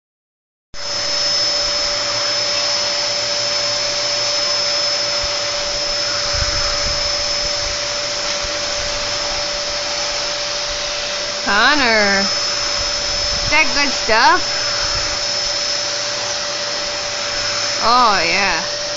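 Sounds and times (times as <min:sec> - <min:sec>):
vacuum cleaner motor whine: 0:00.8 - 0:18.9.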